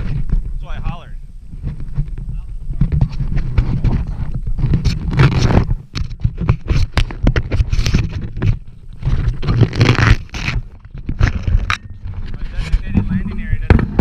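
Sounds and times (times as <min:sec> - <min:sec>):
wind buffeting and crackling rattle: 0:00.0 - 0:14.0.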